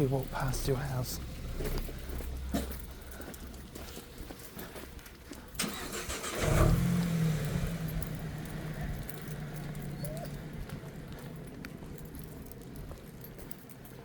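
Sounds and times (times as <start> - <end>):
car engine starting and idling: 0.0 - 4.5, 5.2 - 13.2.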